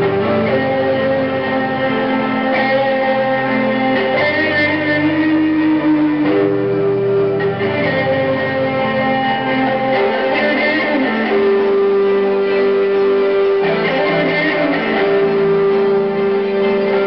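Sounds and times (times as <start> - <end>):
amplified electric guitar: 0.0 - 17.0
live instrumental rock music: 0.0 - 17.0.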